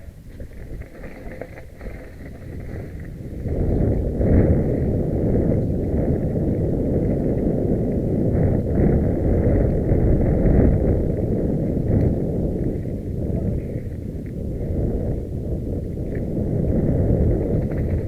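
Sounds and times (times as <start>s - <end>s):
mountain bike trail noise: 0.0s - 18.0s
wind rumbling on microphone: 0.0s - 18.0s.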